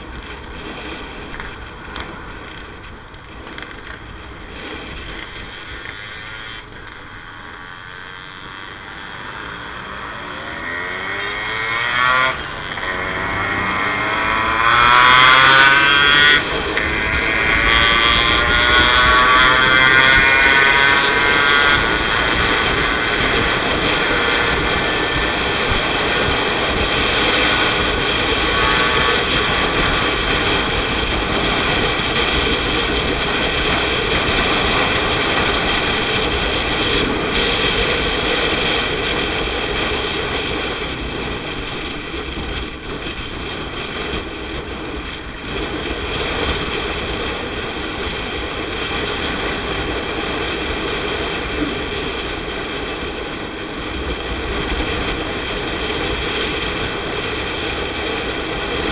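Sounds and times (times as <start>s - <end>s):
motorcycle engine: 0.0s - 58.9s
wind on microphone: 0.0s - 58.9s.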